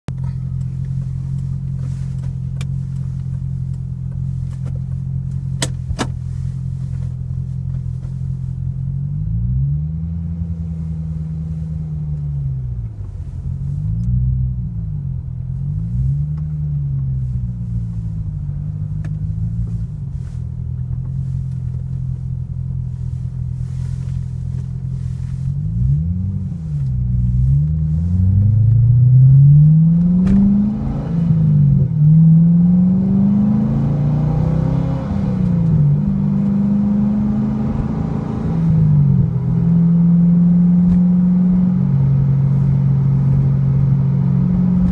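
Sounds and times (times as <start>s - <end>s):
car engine revving: 0.1s - 44.9s.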